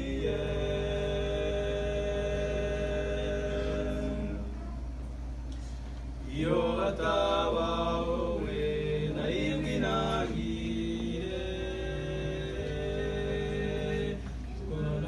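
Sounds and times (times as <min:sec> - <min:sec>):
male vocal group singing: 0:00.0 - 0:04.5, 0:06.2 - 0:15.0.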